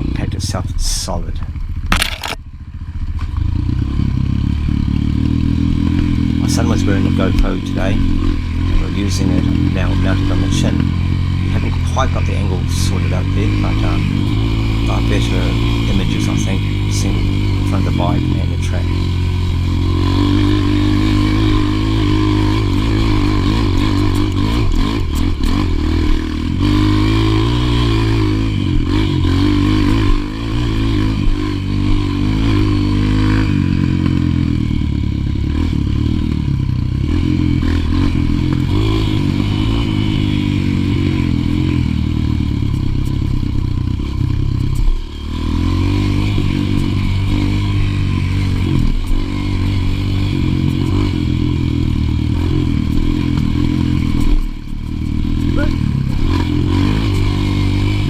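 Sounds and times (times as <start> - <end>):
trail bike engine: 0.0 - 58.0.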